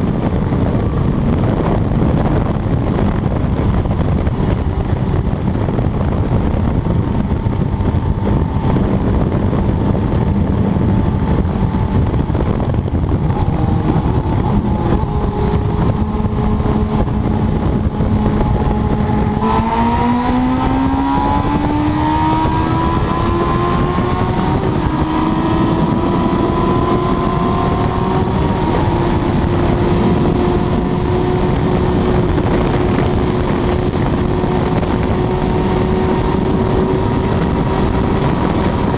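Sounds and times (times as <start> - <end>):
motorcycle engine at high speed: 0.0 - 38.9
wind rush on microphone: 0.0 - 38.9.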